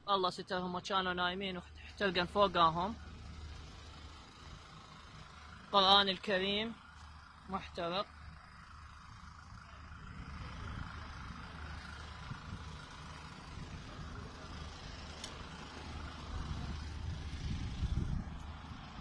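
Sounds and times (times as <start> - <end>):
low rumble with hiss: 0.8 - 19.0.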